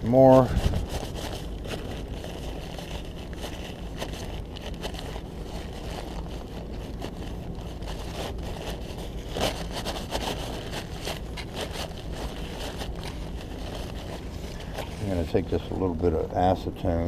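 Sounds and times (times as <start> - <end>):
paper towel rubbing and crinkling: 0.0 - 17.0
steady low hum: 0.0 - 17.0.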